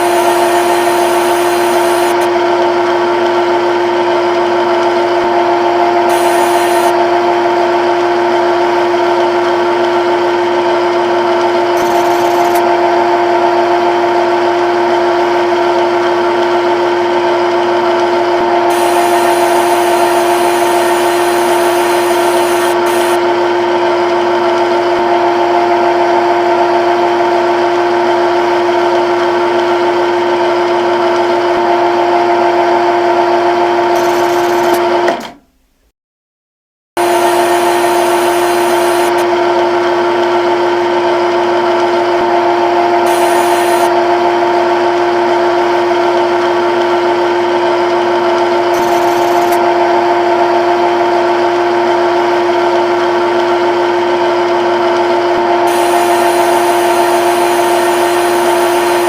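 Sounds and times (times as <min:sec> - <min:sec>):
lathe spindle whine: 0:00.0 - 0:35.4, 0:37.0 - 0:59.0.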